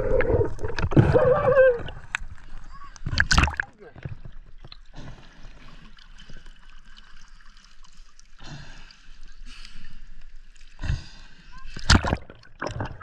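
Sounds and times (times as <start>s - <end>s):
water trickling and gurgling: 0.0s - 10.8s.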